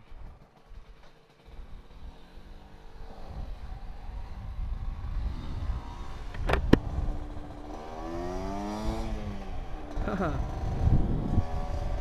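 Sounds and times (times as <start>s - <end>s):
scooter engine pulling away: 0.0s - 12.0s.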